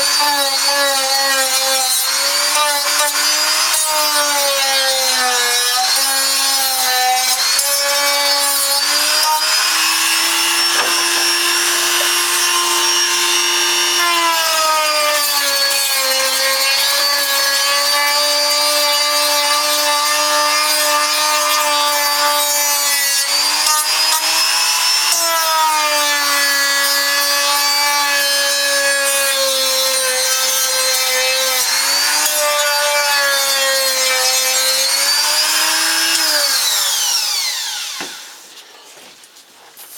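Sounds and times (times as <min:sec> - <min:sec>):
power tool rasping wood: 0:00.0 - 0:38.5.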